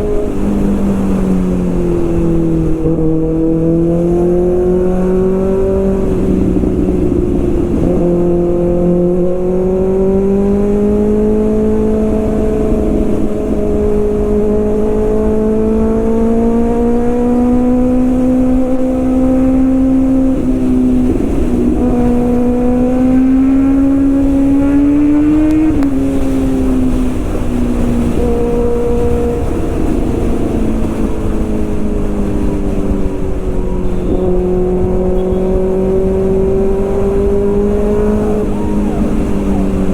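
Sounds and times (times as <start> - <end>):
motorcycle engine pulling: 0.0 - 39.9.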